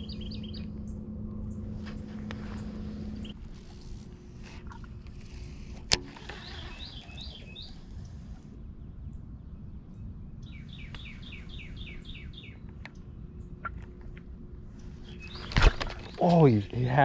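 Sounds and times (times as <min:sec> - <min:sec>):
faint steady hum: 0:00.0 - 0:17.0
songbird singing: 0:00.0 - 0:17.0.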